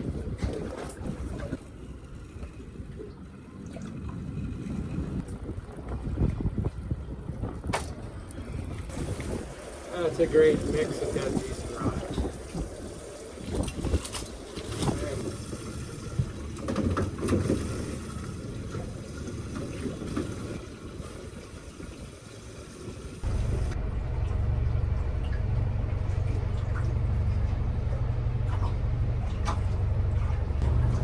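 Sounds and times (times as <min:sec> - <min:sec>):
water sloshing: 0:00.0 - 0:23.8, 0:25.0 - 0:31.0
low motor rumble: 0:00.0 - 0:31.0.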